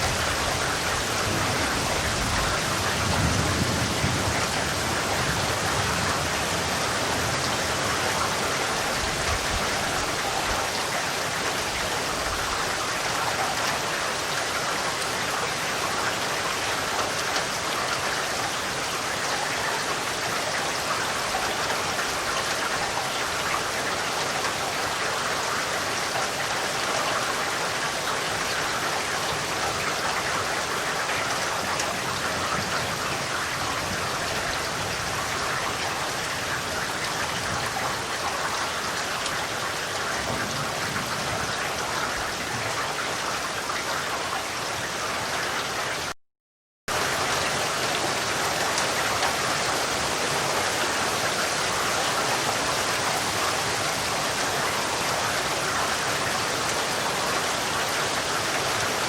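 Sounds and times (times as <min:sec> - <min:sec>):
steady rain falling: 0:00.0 - 0:46.2, 0:46.9 - 0:59.0.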